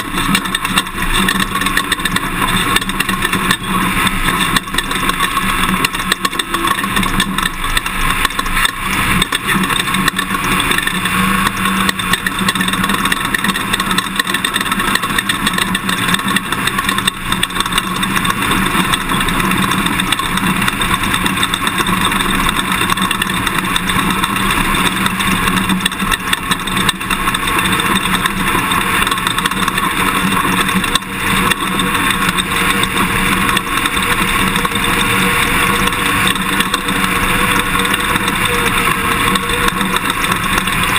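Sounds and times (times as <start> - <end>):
pickup engine running: 0.0 - 40.9
road and tyre noise: 0.0 - 40.9.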